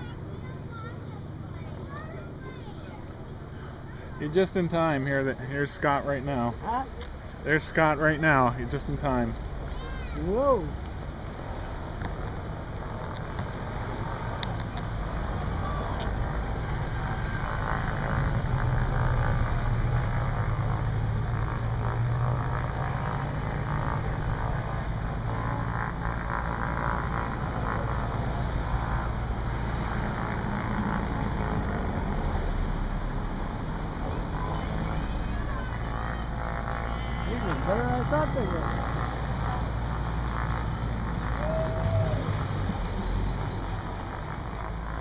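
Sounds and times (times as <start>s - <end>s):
motor engine running past: 0.0s - 45.0s.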